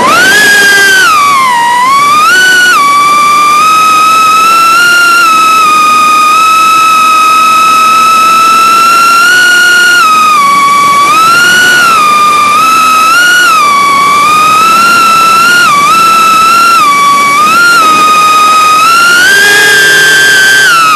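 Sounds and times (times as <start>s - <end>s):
drone motors high-pitched whine: 0.0s - 20.9s.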